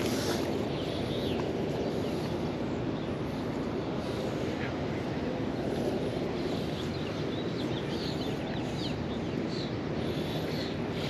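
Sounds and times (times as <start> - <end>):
outdoor background rush: 0.0 - 11.0.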